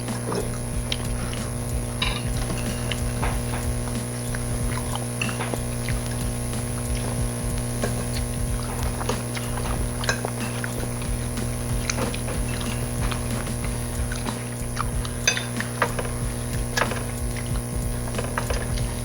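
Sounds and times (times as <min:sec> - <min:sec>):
cutlery clicking on plates: 0:00.0 - 0:19.0
steady low hum: 0:00.0 - 0:19.0
wet chewing: 0:00.0 - 0:19.0.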